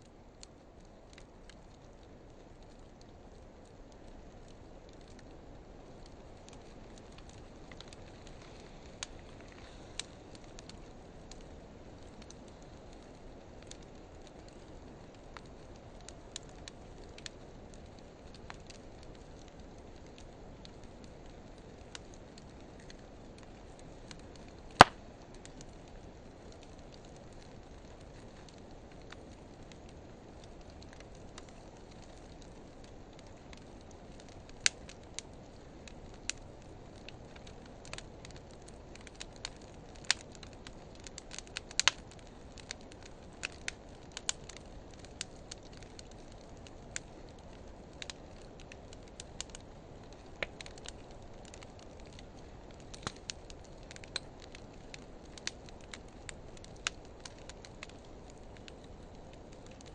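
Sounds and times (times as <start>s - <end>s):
fire crackles and pops: 0.0s - 59.9s
low rush of flame: 0.0s - 59.9s.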